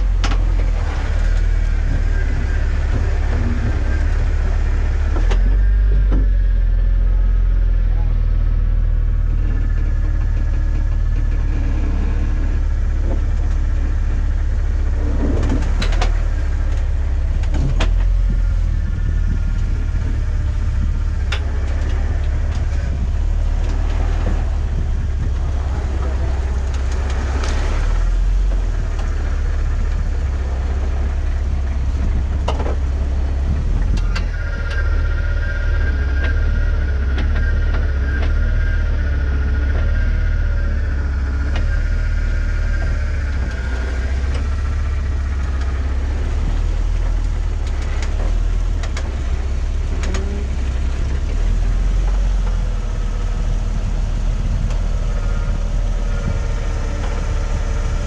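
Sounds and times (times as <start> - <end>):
off-road vehicle engine rumbling: 0.0 - 58.0
wavering high whine: 0.0 - 58.0.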